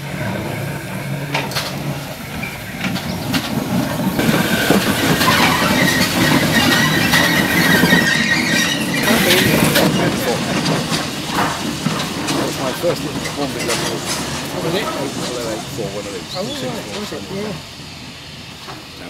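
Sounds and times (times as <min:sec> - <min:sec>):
steady high squeal: 0:00.0 - 0:11.6, 0:12.3 - 0:19.0
steam locomotive rumble and wheel clatter: 0:00.0 - 0:19.0.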